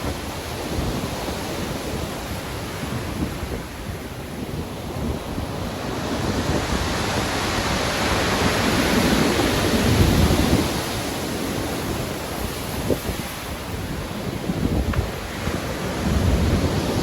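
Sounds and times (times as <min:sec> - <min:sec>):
deep rumble of surf: 0:00.0 - 0:17.0
waves breaking on shore: 0:00.0 - 0:17.0
wind noise: 0:00.0 - 0:17.0.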